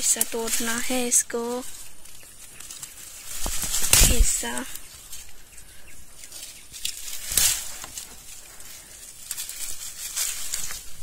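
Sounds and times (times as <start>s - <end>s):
leaves rustling: 0.0s - 11.0s
stems snapping: 0.0s - 11.0s.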